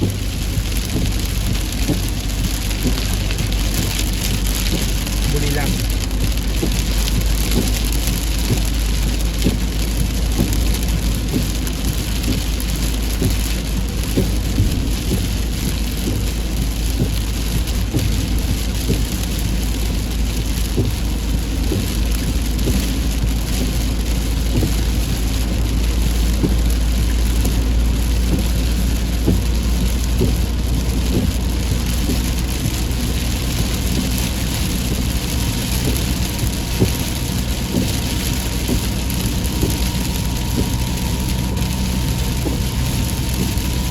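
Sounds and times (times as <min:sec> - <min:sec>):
heavy rain falling: 0:00.0 - 0:43.9
raindrops striking a surface: 0:00.0 - 0:43.9.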